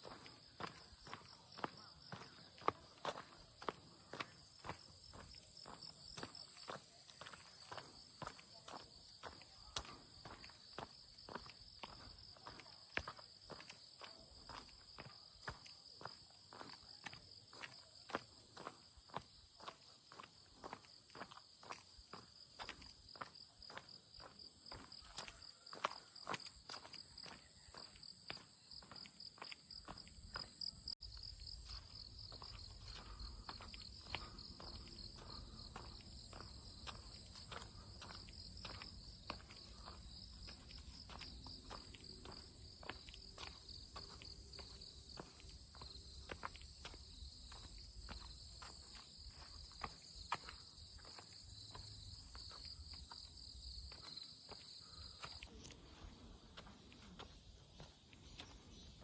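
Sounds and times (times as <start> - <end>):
footsteps on forest path: 0.0 - 59.0
insects chirping: 0.0 - 59.0.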